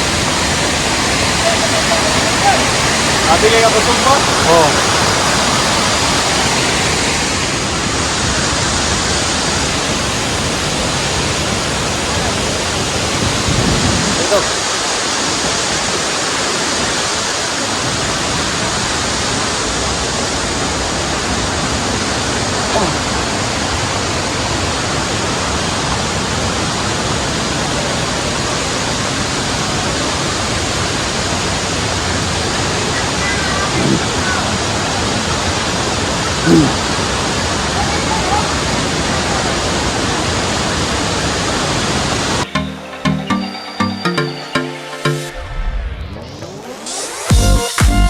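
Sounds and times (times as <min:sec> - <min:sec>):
waterfall rushing: 0:00.0 - 0:45.4.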